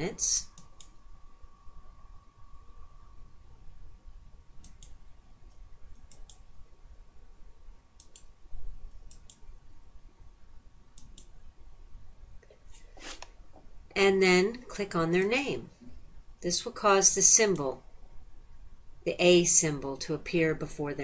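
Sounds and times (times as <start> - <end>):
low room noise: 0.0 - 21.0.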